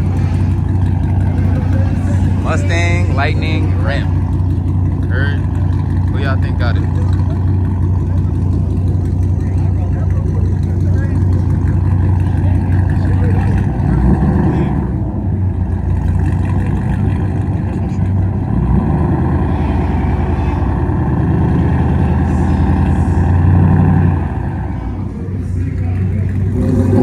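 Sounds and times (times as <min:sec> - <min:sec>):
engines revving hard: 0:00.0 - 0:27.0.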